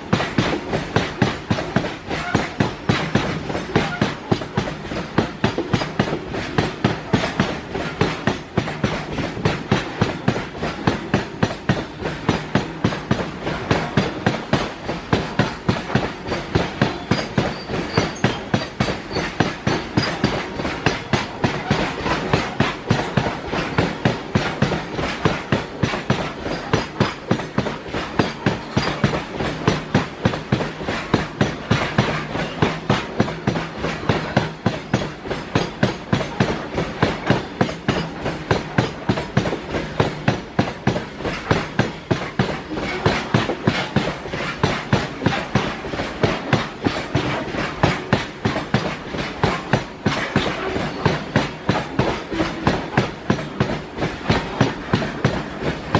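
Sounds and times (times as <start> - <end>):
train wheels clattering over rail joints: 0.0 - 55.9.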